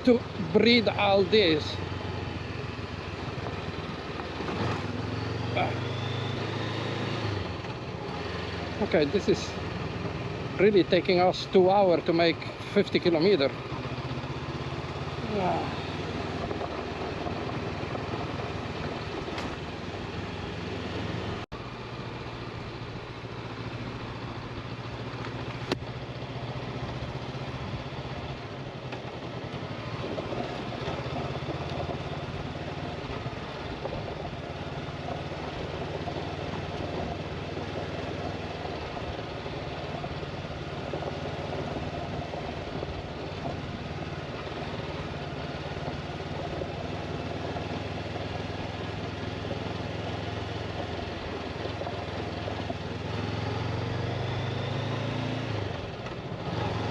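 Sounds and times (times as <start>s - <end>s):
motorcycle engine running: 0.0s - 56.9s
road and wind noise: 0.0s - 56.9s.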